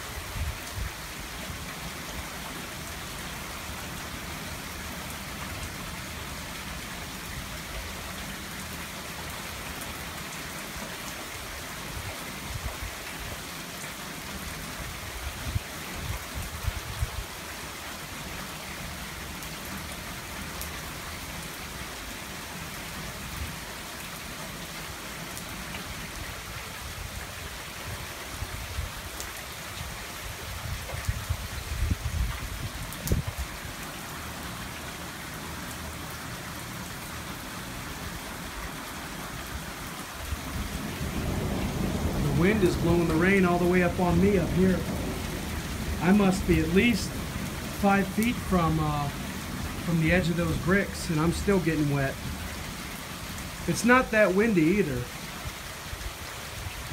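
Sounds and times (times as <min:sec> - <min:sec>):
rain pouring and splashing: 0:00.0 - 0:56.9.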